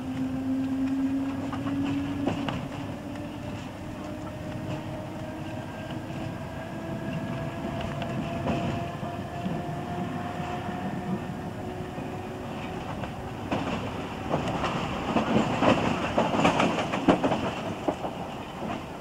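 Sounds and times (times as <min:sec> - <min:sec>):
train carriage rumbling: 0:00.0 - 0:19.0.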